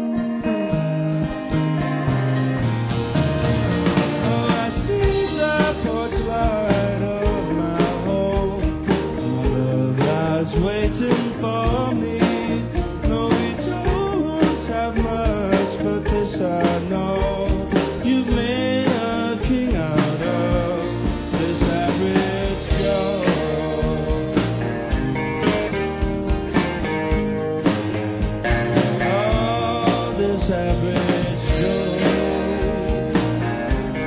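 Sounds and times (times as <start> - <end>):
pop-rock band music: 0.0 - 34.0.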